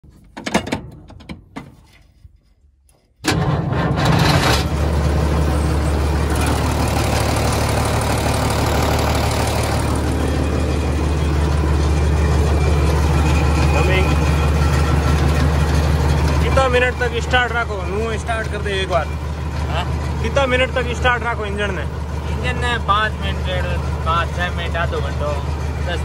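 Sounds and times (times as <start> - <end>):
diesel engine starting and idling: 3.2 - 26.0.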